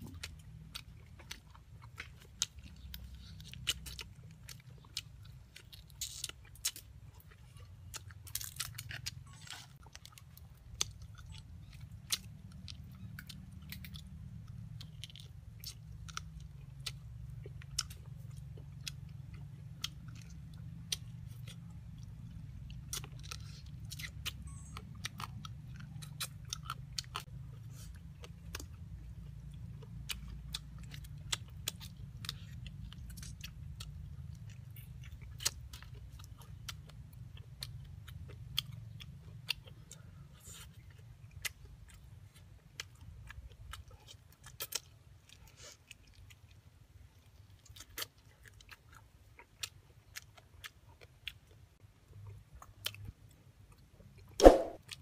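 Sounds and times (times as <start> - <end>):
man chewing meat off bone: 0.0 - 55.0.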